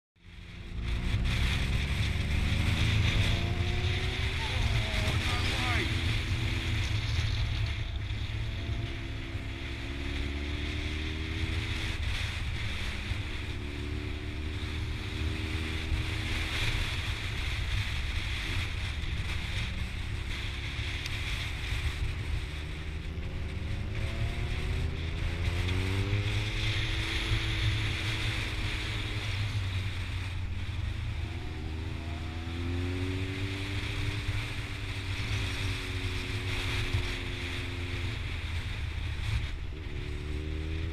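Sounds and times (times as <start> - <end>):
motorcycle engine accelerating: 0.2 - 40.9
wind rumble on microphone: 0.2 - 40.9.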